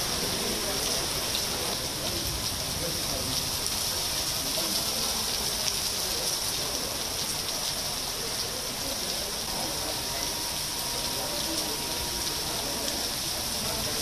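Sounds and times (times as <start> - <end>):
heavy rain on wet road: 0.0 - 14.0.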